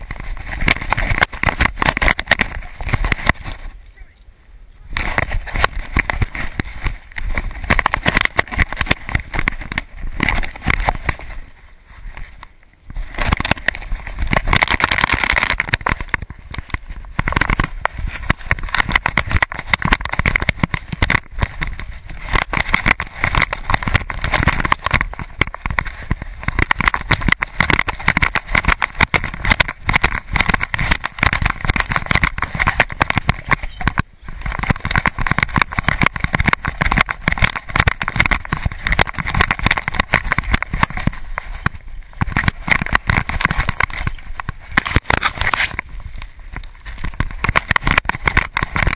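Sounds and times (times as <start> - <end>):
camera handling knocks and rustling: 0.0 - 3.7, 5.0 - 11.4, 13.1 - 48.9.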